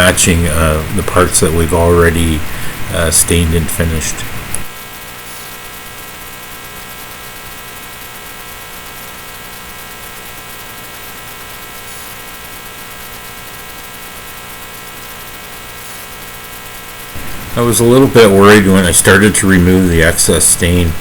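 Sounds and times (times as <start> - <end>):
electrical buzzing hum with hiss: 0.0 - 21.0.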